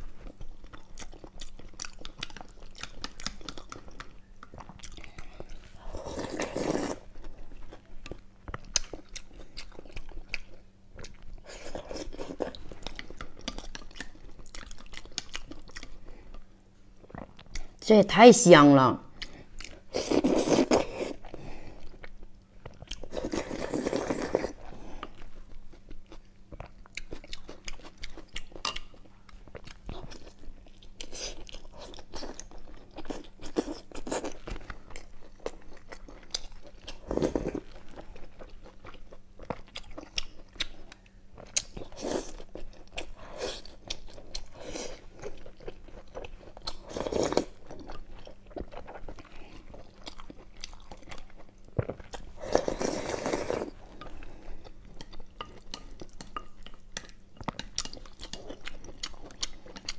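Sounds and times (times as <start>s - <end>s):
chewing soft food: 0.0s - 17.8s, 19.1s - 59.9s.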